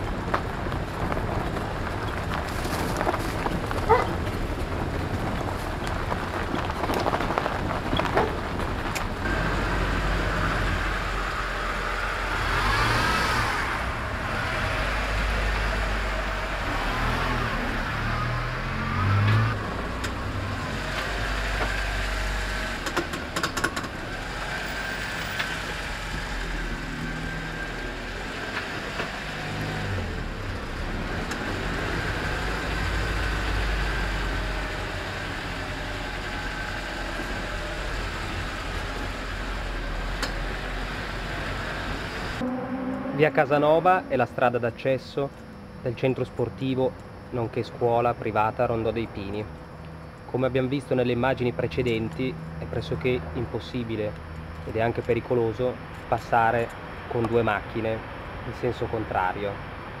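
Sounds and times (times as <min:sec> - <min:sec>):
car engine and tyre noise: 0:00.0 - 1:00.0
street noise: 0:00.0 - 1:00.0.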